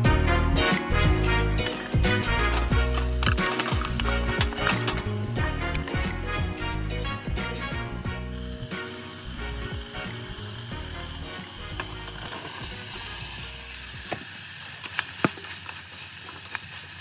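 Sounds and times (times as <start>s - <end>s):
background music: 0.0s - 14.1s
food sizzling in a hot pan: 0.8s - 17.0s.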